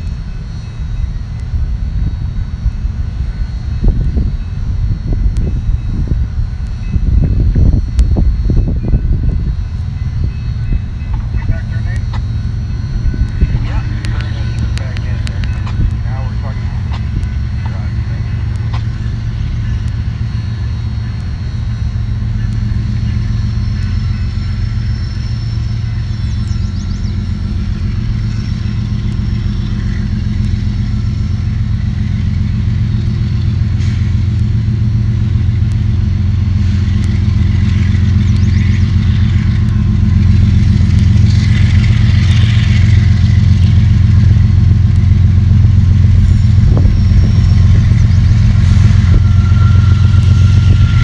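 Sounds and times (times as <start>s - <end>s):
diesel locomotives rumbling: 0.0s - 51.0s.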